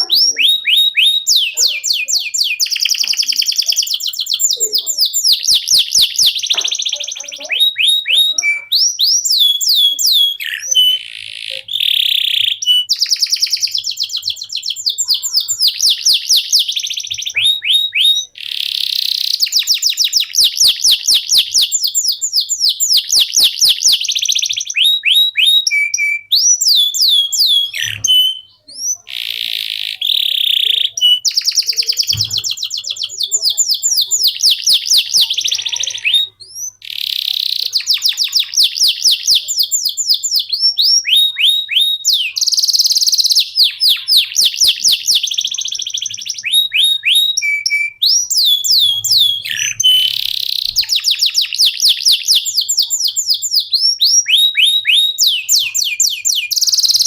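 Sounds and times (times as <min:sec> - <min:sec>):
canary singing rapid trills: 0:00.0 - 0:57.0.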